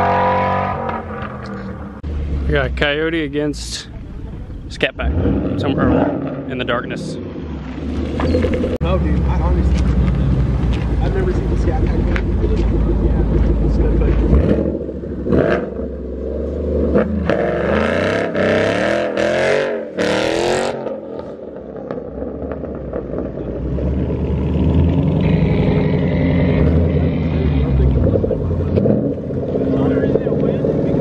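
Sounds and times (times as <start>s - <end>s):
engines at full throttle: 4.9s - 31.0s.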